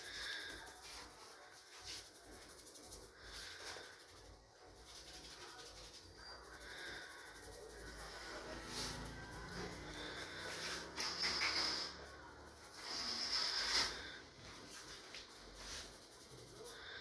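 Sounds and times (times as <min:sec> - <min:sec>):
scratching hair on scalp: 0:00.0 - 0:17.0.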